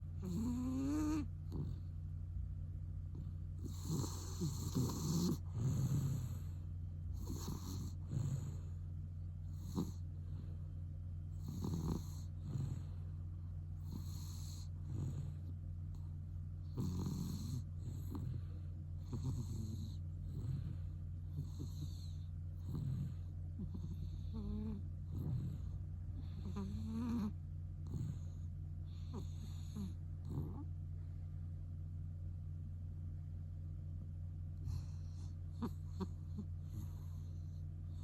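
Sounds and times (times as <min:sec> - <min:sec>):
low hum: 0:00.0 - 0:38.0
cat snoring: 0:00.1 - 0:01.9, 0:03.1 - 0:08.8, 0:09.4 - 0:10.5, 0:11.3 - 0:13.1, 0:13.8 - 0:30.7, 0:34.6 - 0:38.0.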